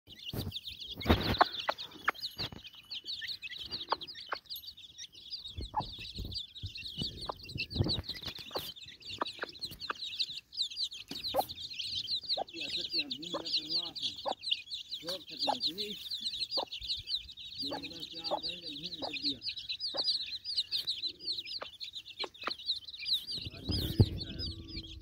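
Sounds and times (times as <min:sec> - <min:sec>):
chicks peeping: 0:00.1 - 0:25.0
hen clucking: 0:00.2 - 0:04.5, 0:05.5 - 0:25.0.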